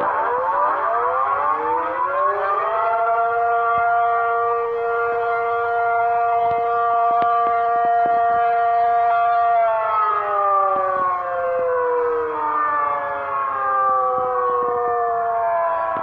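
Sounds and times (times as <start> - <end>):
tornado siren winding down: 0.0 - 16.0.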